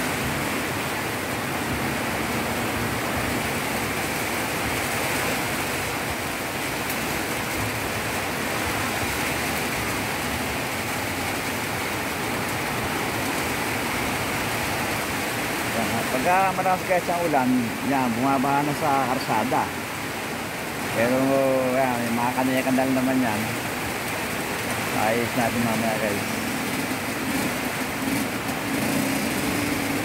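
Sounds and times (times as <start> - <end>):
heavy rain downpour: 0.0 - 30.0.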